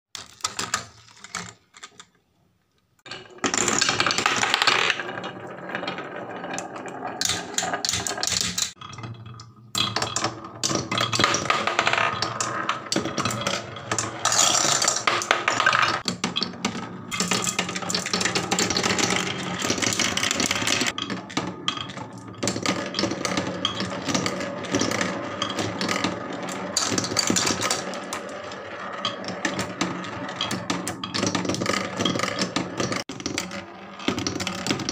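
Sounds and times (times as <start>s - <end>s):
marbles rolling on wooden tracks: 3.0s - 34.9s.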